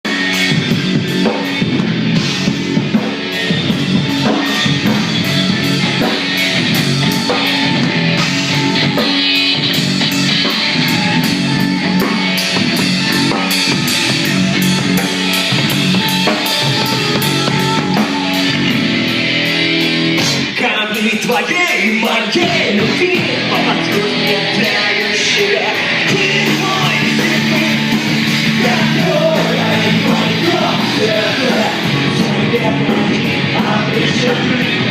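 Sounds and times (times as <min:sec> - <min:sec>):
drum kit beat: 0:00.0 - 0:34.9
electric guitar: 0:00.1 - 0:34.9.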